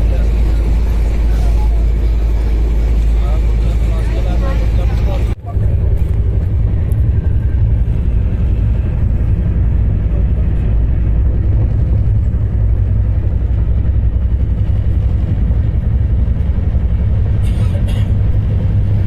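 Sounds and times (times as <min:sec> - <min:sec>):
moving train rumbling: 0:00.0 - 0:19.0.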